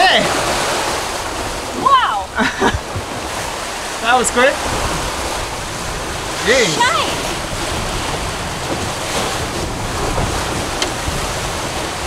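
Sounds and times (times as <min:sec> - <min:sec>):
ocean waves breaking: 0:00.0 - 0:12.0
wind: 0:00.0 - 0:12.0
wind buffeting microphone: 0:00.0 - 0:12.0.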